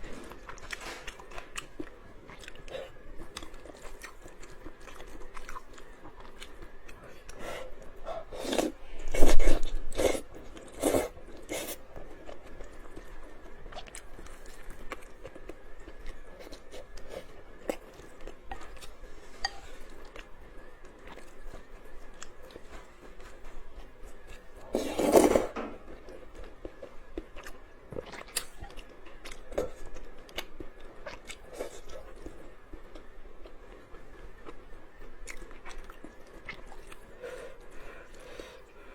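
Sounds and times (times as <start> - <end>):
chewing noodles: 0.0 - 38.9.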